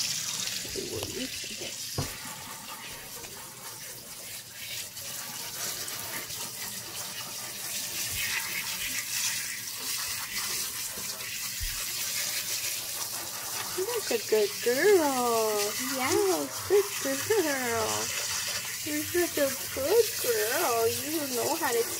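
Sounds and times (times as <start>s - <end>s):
water spraying and splashing: 0.0s - 21.9s.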